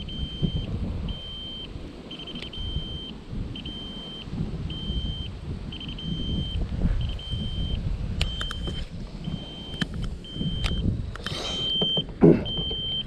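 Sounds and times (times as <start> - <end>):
high-pitched electronic beeps: 0.0 - 10.9, 11.5 - 13.0.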